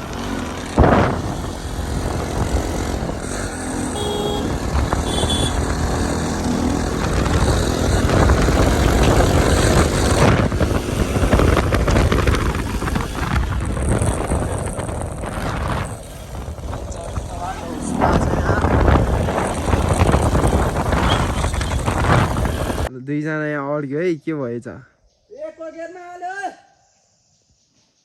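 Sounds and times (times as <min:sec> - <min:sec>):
motorbike engine running: 0:00.0 - 0:22.9
wind and road noise: 0:00.0 - 0:22.9.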